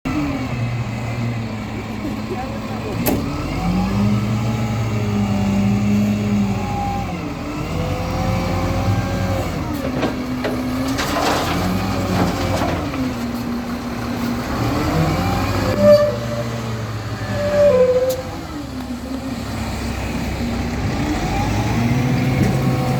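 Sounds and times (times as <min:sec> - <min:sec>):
diesel machinery engines revving: 0:00.1 - 0:22.9.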